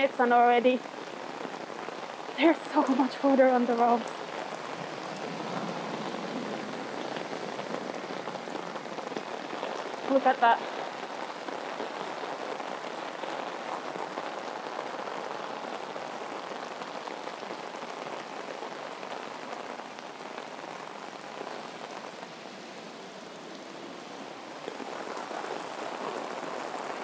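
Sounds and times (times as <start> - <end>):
heavy rain on road and umbrella: 0.0 - 27.0.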